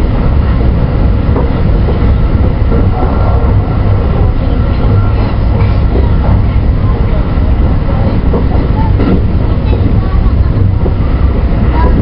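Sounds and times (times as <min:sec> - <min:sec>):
electric train wheels on rail: 0:00.0 - 0:12.0.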